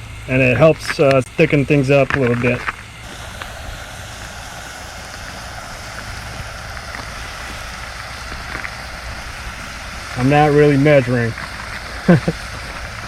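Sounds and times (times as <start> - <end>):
low steady rumble: 0.0 - 13.0
vegetables sizzling in butter: 0.6 - 13.0.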